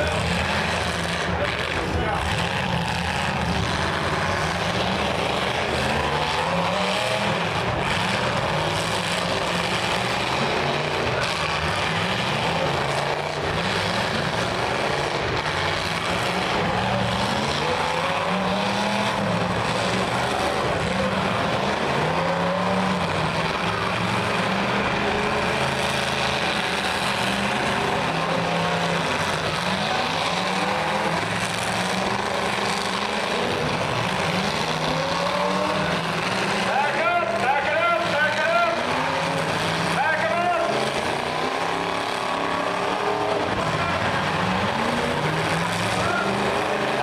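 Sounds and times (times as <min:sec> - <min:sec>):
car engines revving: 0:00.0 - 0:47.0
continuous noisy din: 0:00.0 - 0:47.0.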